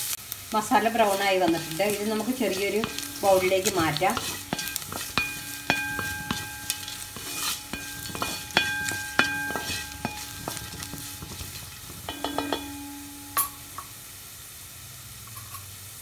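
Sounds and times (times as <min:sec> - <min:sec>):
oil sizzling in a pan: 0:00.0 - 0:16.0
wooden spatula scraping a pan: 0:00.5 - 0:13.7
spatula knocking on metal pan: 0:00.8 - 0:13.9.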